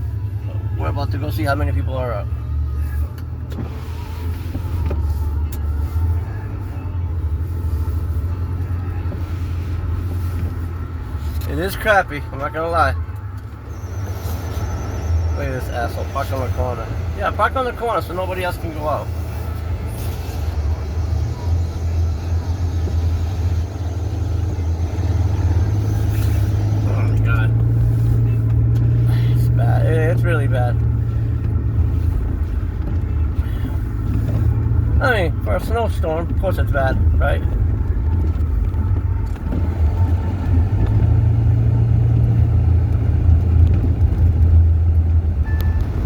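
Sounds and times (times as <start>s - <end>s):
car engine rumble: 0.0s - 46.0s.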